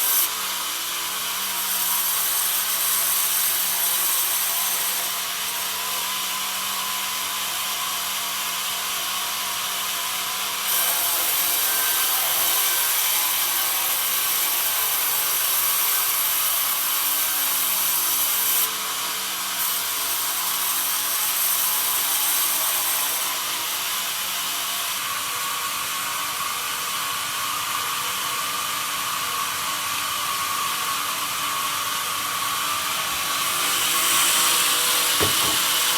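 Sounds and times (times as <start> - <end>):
band saw cutting wood: 0.0 - 25.5, 30.6 - 35.9.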